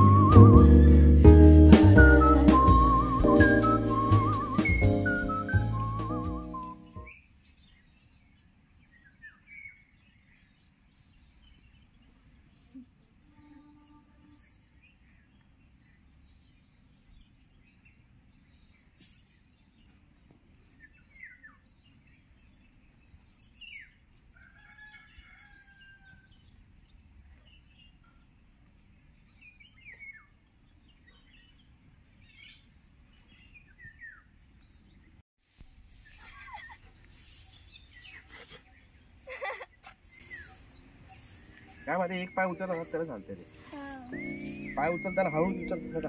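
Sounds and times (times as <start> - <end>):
birds calling faintly: 0.0 - 35.2, 35.8 - 46.0.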